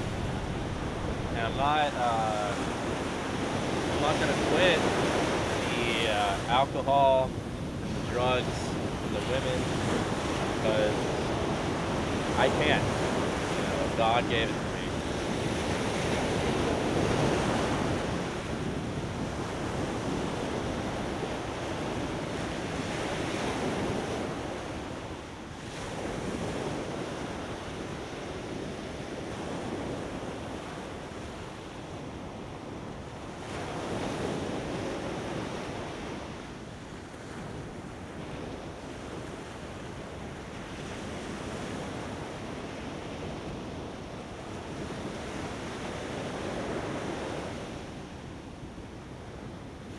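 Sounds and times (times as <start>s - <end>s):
ocean surf on beach: 0.0s - 49.9s
wind buffeting microphone: 0.0s - 49.9s.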